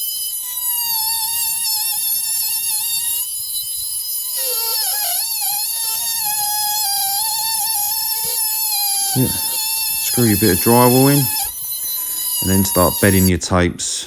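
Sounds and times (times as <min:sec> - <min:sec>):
oscillating multi-tool buzzing: 0:00.0 - 0:13.5.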